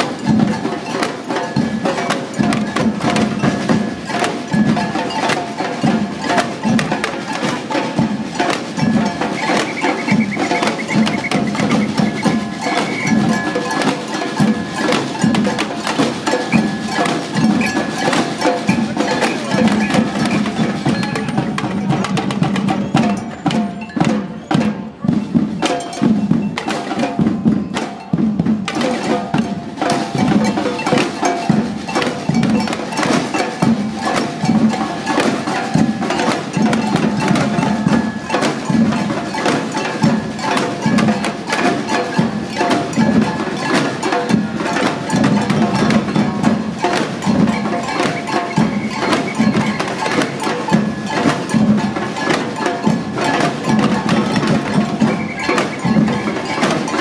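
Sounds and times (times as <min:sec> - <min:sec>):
samba drum band playing: 0:00.0 - 0:57.0.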